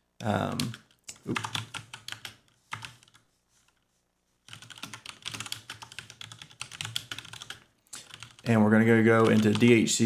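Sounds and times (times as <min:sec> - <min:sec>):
computer keyboard typing: 0:00.5 - 0:03.2, 0:04.5 - 0:09.8.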